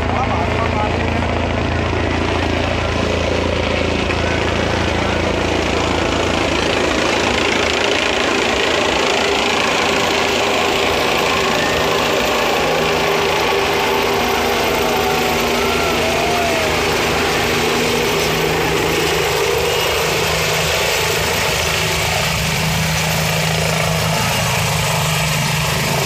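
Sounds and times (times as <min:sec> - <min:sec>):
helicopter rotor and engine: 0:00.0 - 0:26.0.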